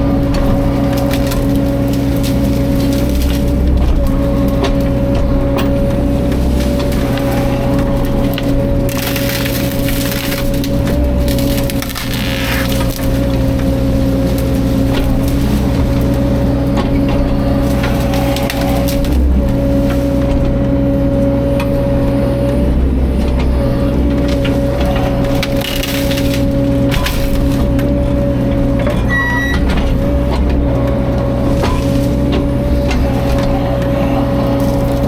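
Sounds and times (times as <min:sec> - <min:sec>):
wood crackling and snapping: 0:00.0 - 0:22.5, 0:23.1 - 0:35.0
excavator engine humming with whine: 0:00.0 - 0:35.0.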